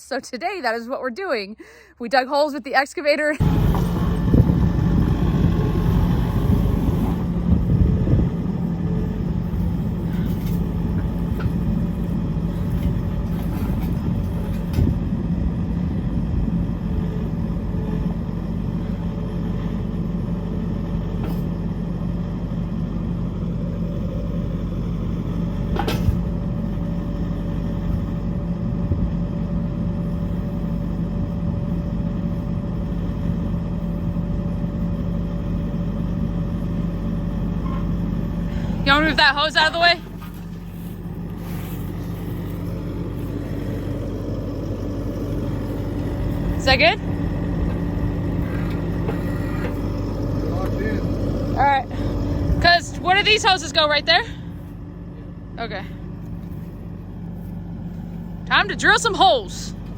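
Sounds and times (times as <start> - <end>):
skid steer engine idling: 2.3 - 59.9.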